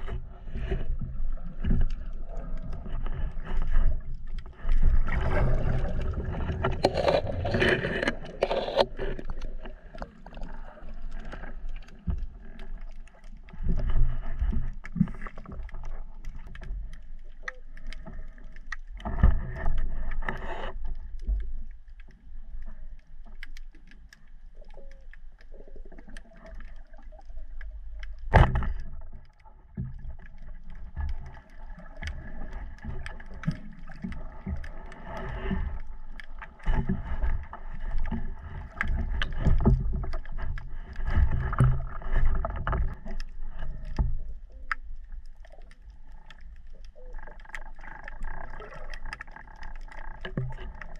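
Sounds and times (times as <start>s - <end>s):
muffled underwater water noise: 0.0s - 50.9s.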